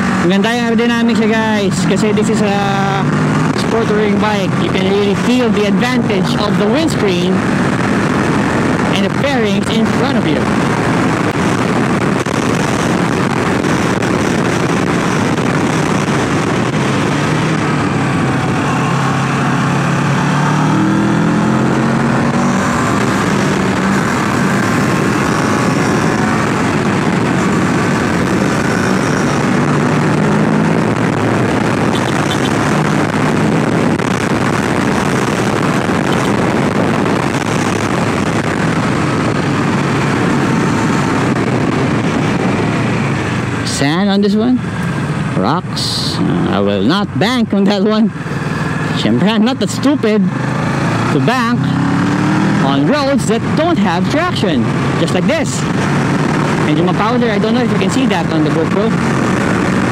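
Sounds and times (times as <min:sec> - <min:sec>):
motorcycle engine accelerating: 0:00.0 - 0:43.7, 0:46.0 - 0:59.9
wind rush on microphone: 0:00.0 - 0:59.9.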